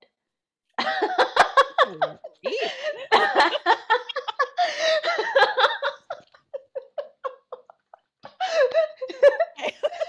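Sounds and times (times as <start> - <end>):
woman laughing: 0.8 - 10.0.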